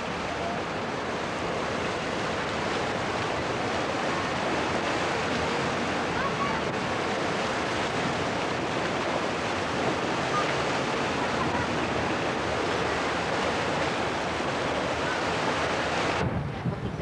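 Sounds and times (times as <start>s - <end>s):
waves breaking over rocks: 0.0s - 16.7s.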